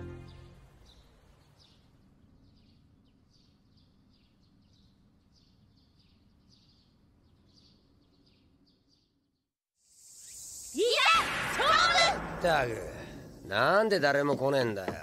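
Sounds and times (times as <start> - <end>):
small birds chirping: 0.2 - 12.3.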